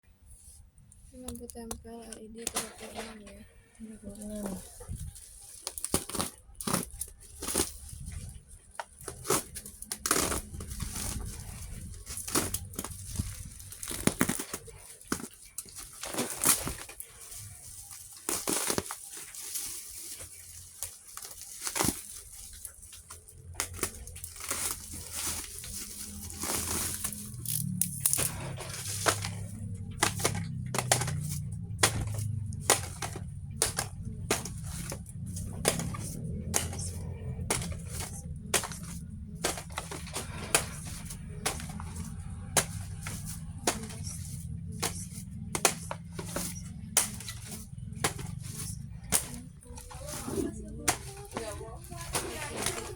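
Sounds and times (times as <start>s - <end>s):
plastic packaging crinkling: 0.8s - 52.9s.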